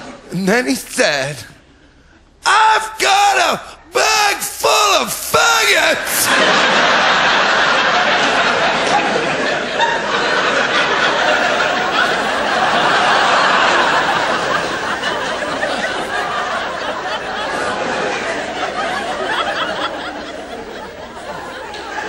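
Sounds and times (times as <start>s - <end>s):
audience laughing loudly: 4.0s - 22.0s.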